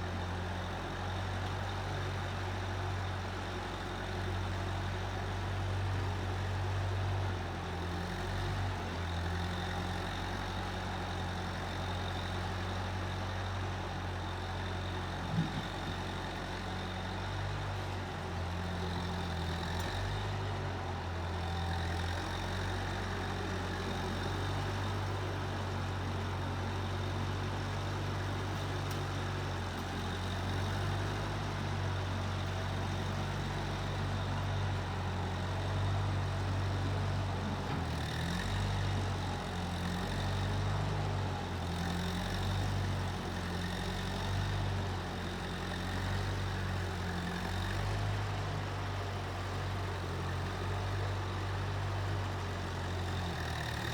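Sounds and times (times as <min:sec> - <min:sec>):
skid steer engine humming: 0:00.0 - 0:53.9.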